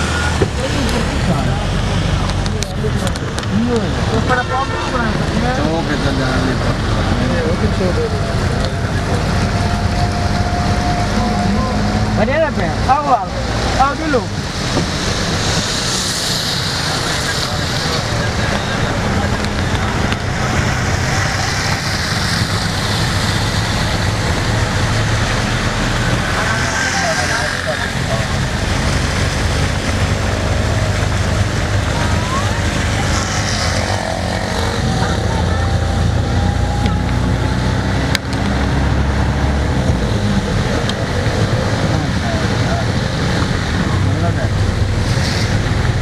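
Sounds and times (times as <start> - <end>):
road and wind noise: 0.0 - 46.0
vehicle engine hum: 0.0 - 46.0.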